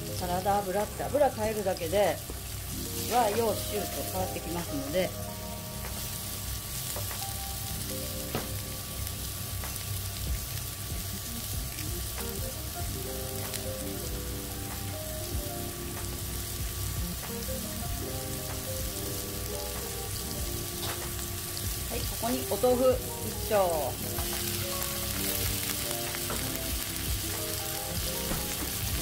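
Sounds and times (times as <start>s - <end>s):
background music melody: 0.0s - 29.0s
mushrooms sizzling in oil: 0.0s - 29.0s.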